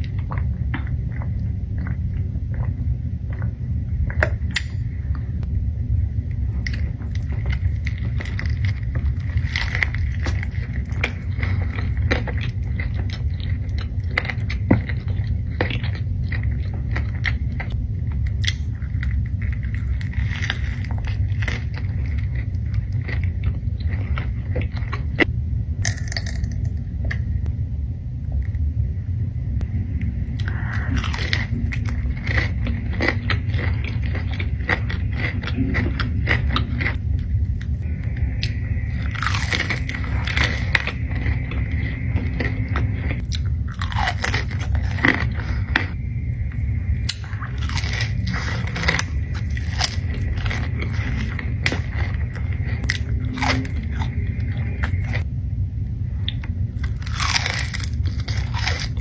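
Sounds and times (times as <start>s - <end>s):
crunching and chewing: 0.0s - 27.4s, 29.6s - 59.0s
steady low hum: 0.0s - 59.0s
steady low rumble: 0.0s - 59.0s.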